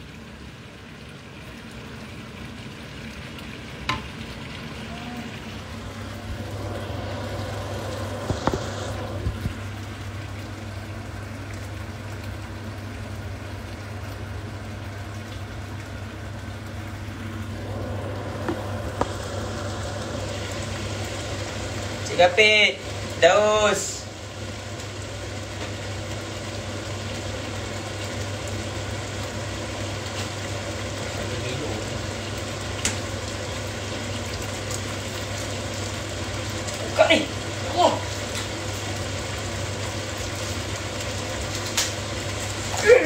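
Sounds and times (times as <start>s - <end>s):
sauce sizzling in a pan: 0.0s - 43.0s.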